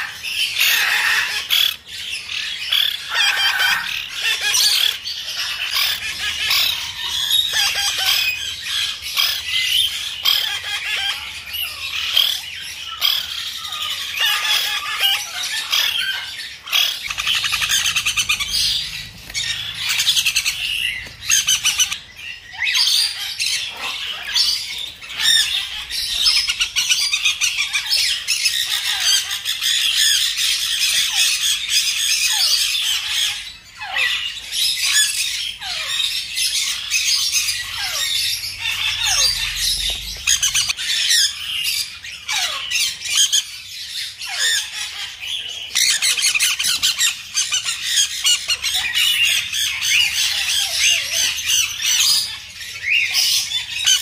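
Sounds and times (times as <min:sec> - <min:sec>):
parrot chicks squawking: 0:00.0 - 0:54.0.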